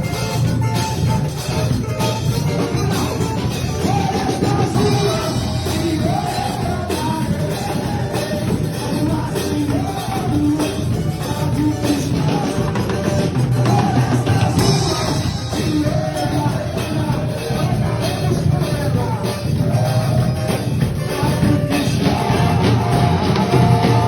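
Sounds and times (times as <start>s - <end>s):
drums: 0.0s - 24.0s
worship band singing: 0.0s - 24.0s.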